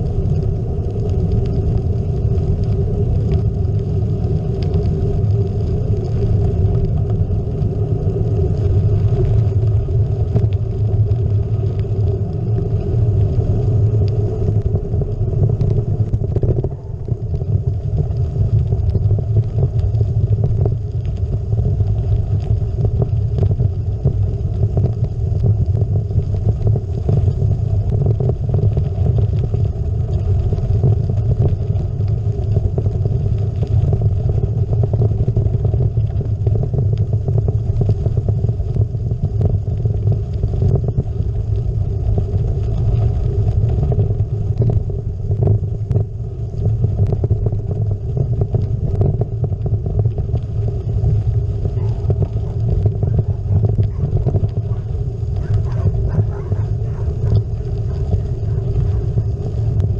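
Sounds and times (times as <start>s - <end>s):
bike tyres rumbling on gravel: 0.0s - 59.9s.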